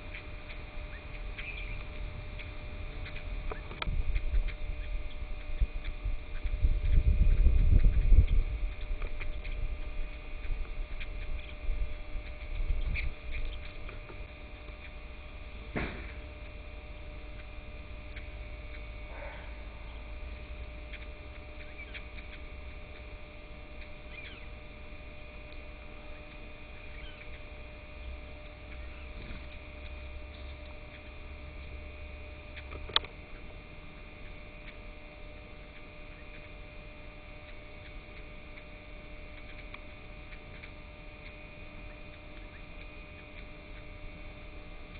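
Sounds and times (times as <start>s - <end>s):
steady electrical hum: 0.0s - 44.9s.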